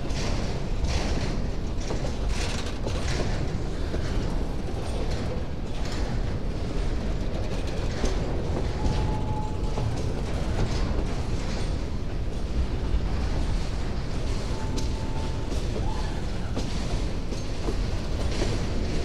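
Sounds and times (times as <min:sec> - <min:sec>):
freight cars clanking and rattling: 0:00.0 - 0:19.0
steel wheels rumbling on rails: 0:00.0 - 0:19.0.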